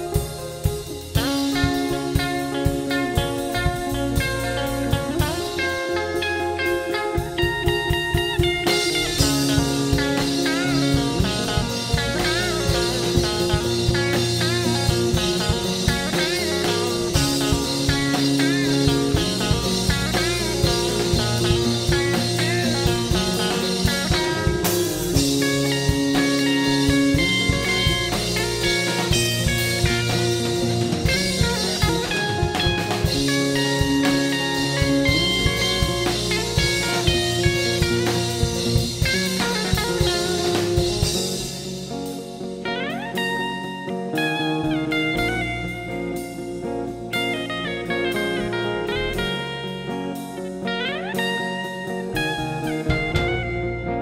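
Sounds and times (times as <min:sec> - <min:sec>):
lead guitar bent notes: 0:00.0 - 0:54.0
rock band playing instrumental: 0:00.0 - 0:54.0.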